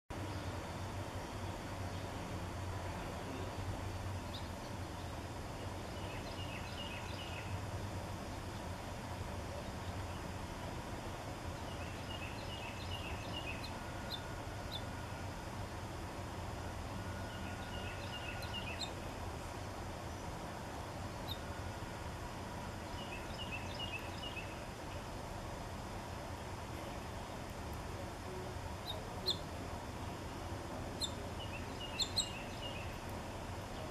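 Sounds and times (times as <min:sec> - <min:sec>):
outdoor background hiss: 0:00.1 - 0:33.9
songbird singing: 0:00.1 - 0:33.9.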